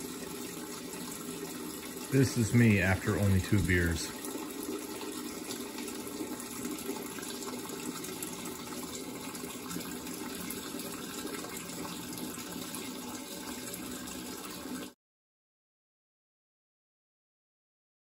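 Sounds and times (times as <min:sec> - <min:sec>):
water splashing into drain: 0:00.0 - 0:15.0.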